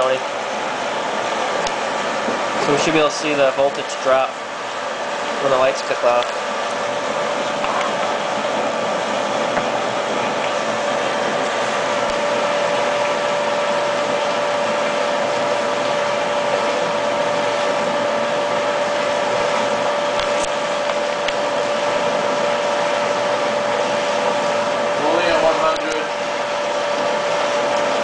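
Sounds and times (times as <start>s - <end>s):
pump humming and whining: 0.0s - 28.0s.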